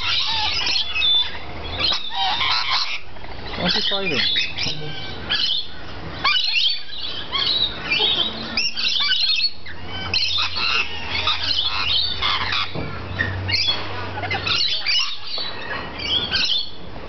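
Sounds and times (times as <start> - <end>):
lorikeets screeching: 0.0 - 17.0.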